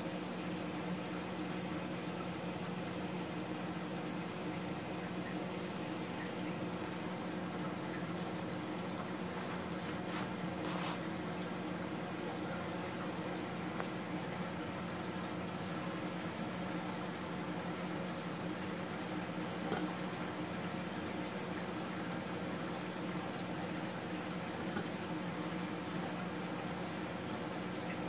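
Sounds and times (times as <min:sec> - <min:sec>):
water trickling and bubbling: 0:00.1 - 0:28.0.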